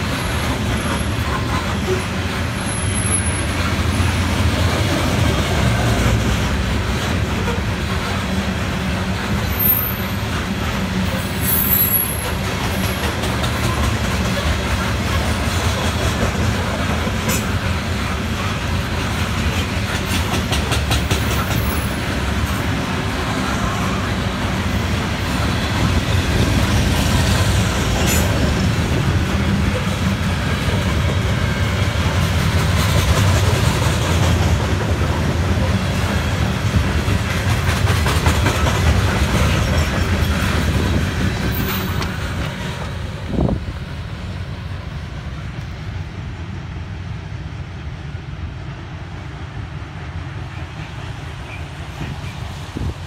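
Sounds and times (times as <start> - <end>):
wheels clacking over rail joints: 0.0 - 43.6
train cars rumbling on rails: 0.0 - 53.0.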